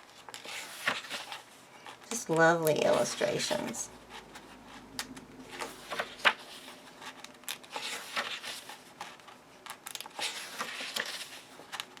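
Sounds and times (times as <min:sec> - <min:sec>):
book pages turning: 0:00.0 - 0:12.0.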